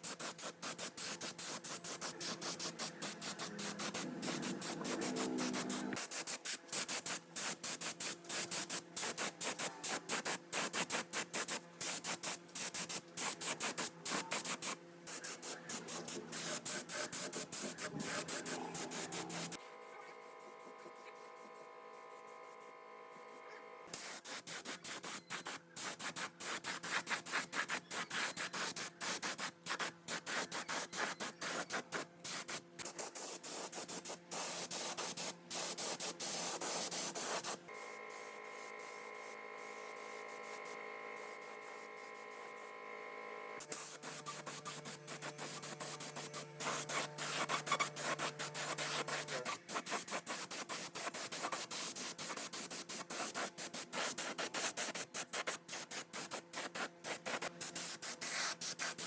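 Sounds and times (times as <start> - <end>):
hissing spray: 0.0 - 19.6, 23.9 - 37.6, 43.6 - 59.0.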